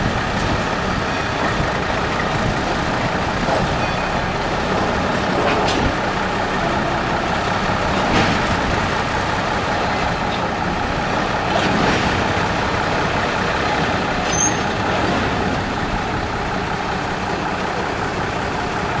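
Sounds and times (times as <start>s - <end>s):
diesel locomotive running: 0.0s - 19.0s.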